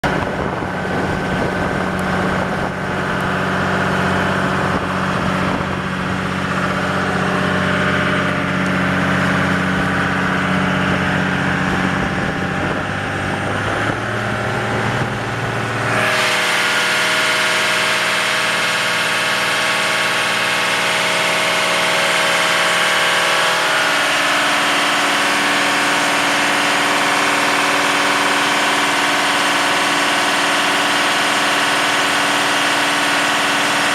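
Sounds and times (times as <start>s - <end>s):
boat engine droning: 0.0s - 33.9s.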